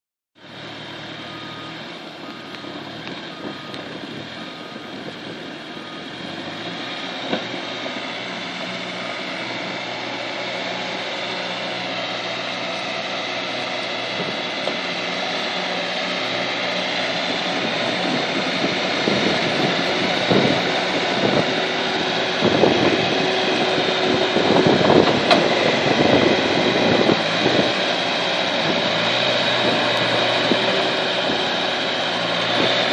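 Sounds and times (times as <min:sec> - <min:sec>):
diesel engine running: 0:00.4 - 0:32.9.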